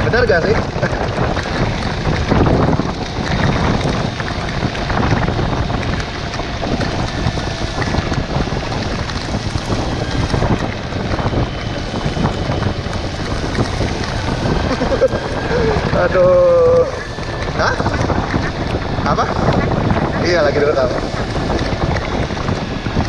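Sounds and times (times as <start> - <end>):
motorcycle riding noise: 0.0 - 23.0
wind buffeting microphone: 0.0 - 23.0.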